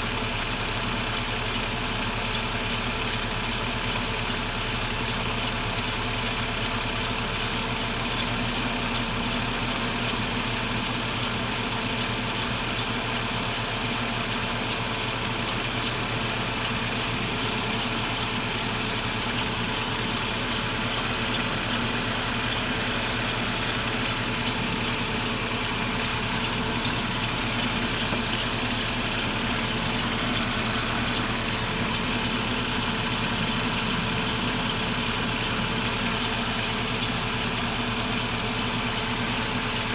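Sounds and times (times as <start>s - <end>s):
car engine idling: 0.0s - 39.9s
rhythmic high-pitched squeak: 2.4s - 39.9s.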